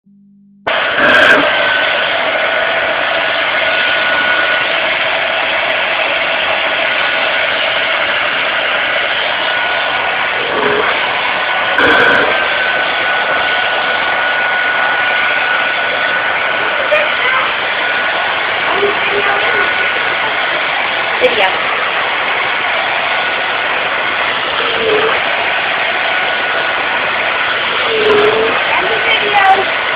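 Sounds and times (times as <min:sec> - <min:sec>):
vacuum cleaner running: 0:00.6 - 0:29.9.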